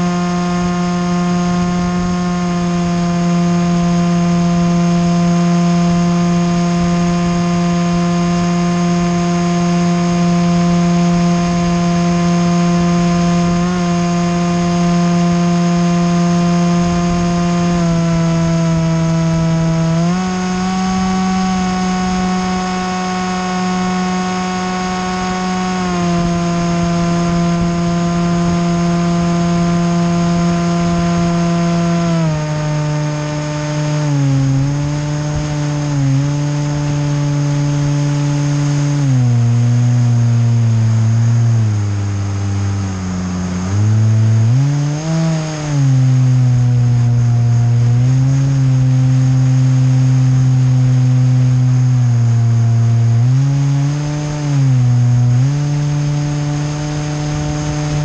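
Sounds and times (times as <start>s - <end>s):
propeller aircraft droning: 0.0s - 58.0s.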